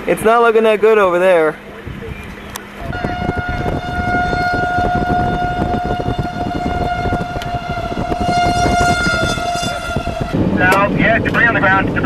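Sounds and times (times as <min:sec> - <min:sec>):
vehicle rumble: 0:00.0 - 0:12.0
wind: 0:00.0 - 0:12.0
steady warning tone: 0:01.6 - 0:12.0.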